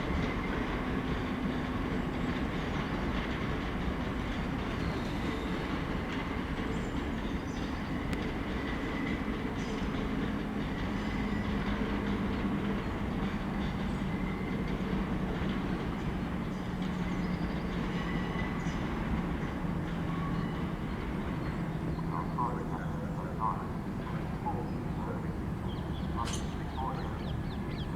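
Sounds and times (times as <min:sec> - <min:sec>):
train rumbling along track: 0:00.0 - 0:27.9.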